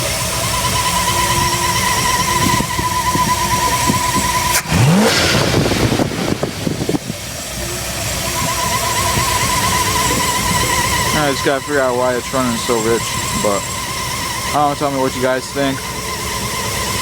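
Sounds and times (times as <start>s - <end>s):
engine running at high idle: 0.0s - 17.0s
steady whining tone: 0.0s - 17.0s.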